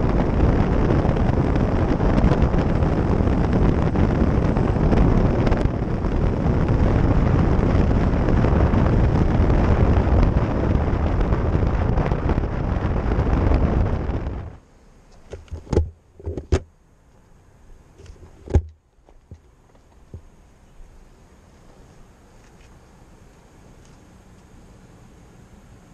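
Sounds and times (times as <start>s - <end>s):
wind and road noise: 0.0s - 25.9s.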